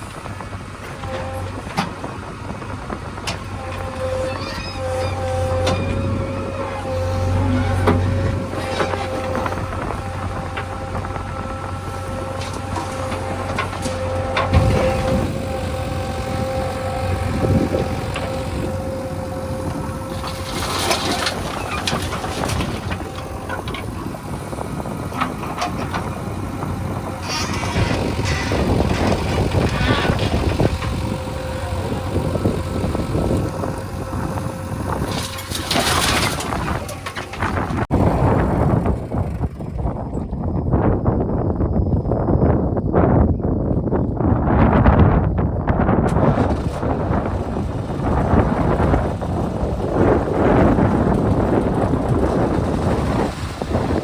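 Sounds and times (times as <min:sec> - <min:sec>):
diesel vehicle engine: 0:00.0 - 0:41.7, 0:45.8 - 0:54.0.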